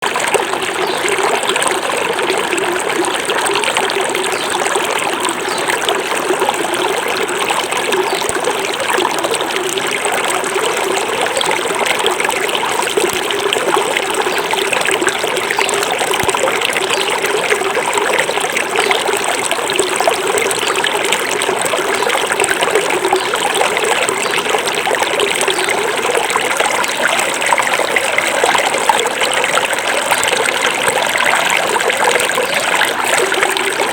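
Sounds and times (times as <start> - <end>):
river babbling over stones: 0.0 - 33.9.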